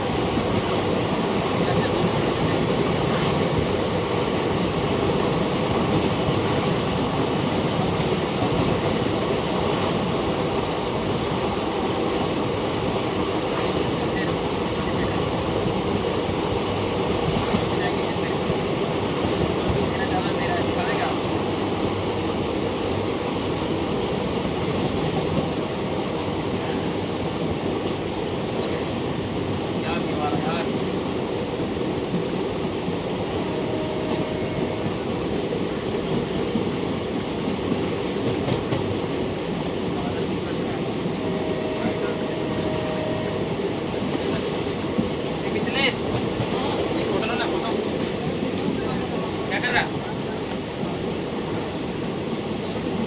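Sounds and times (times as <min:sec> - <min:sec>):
train rumbling along track: 0:00.0 - 0:53.0.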